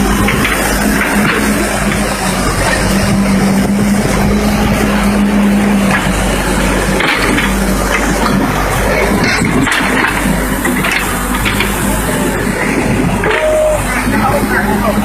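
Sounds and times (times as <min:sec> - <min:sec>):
steady hum: 0:00.0 - 0:15.0
vehicle engine running: 0:00.0 - 0:15.0.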